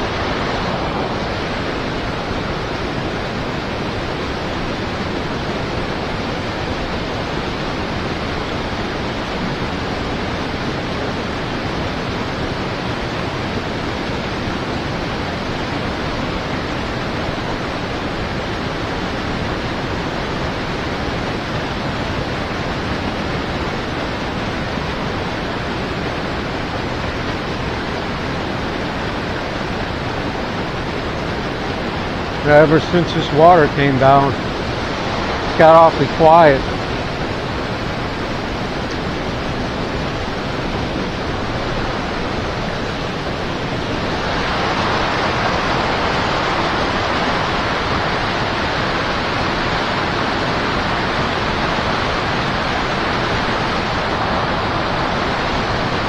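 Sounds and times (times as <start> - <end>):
river current rushing: 0.0 - 56.0.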